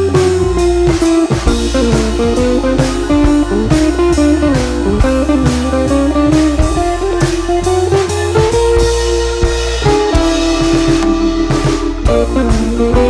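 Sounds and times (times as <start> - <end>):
bluesy guitar melody: 0.0 - 13.0
steady beat: 0.0 - 13.0.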